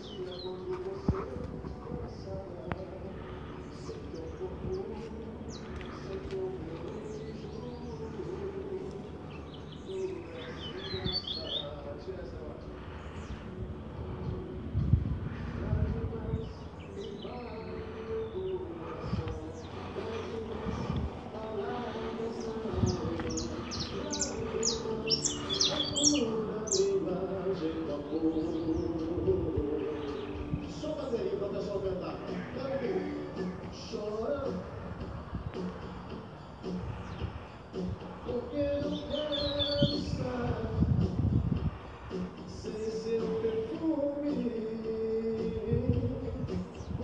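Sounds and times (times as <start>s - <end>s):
small songbird chirping: 0.0s - 47.0s.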